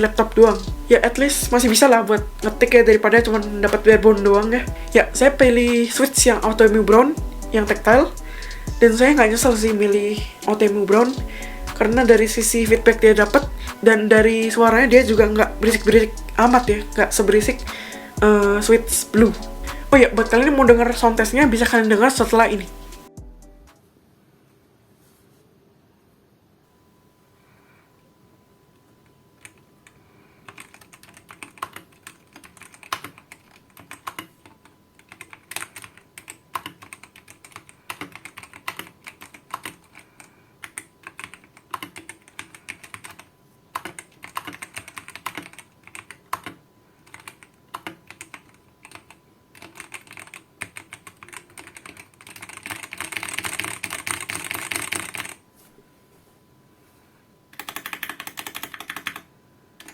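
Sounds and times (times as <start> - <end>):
mechanical keyboard typing: 0.0 - 22.8, 29.4 - 55.4, 57.6 - 59.9.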